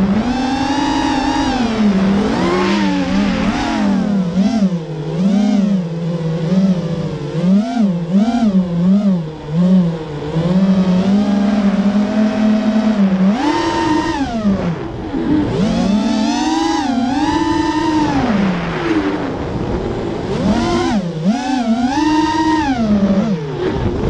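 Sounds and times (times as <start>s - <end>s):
quadcopter motors buzzing whine: 0.0s - 24.0s.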